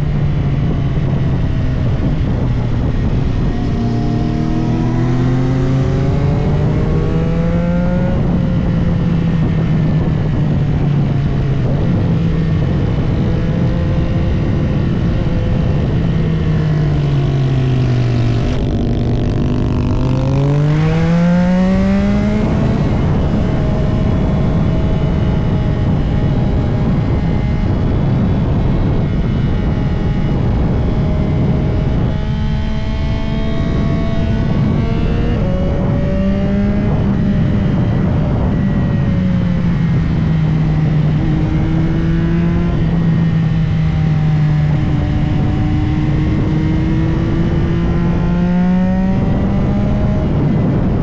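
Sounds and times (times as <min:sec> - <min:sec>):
motorcycle engine revving: 0:00.0 - 0:51.0
wind rush: 0:00.0 - 0:51.0.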